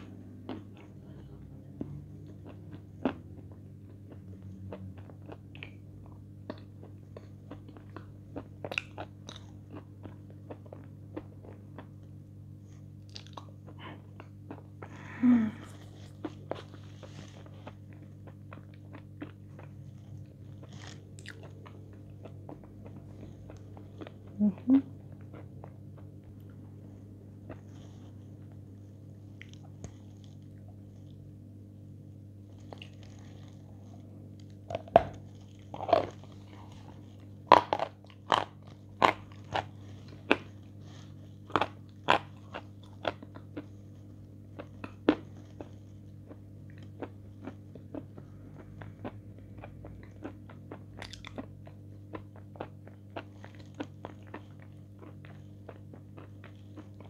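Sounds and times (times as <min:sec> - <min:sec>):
crunchy food chewing: 0:00.0 - 0:31.3, 0:32.4 - 0:57.0
low electrical hum: 0:00.0 - 0:57.0.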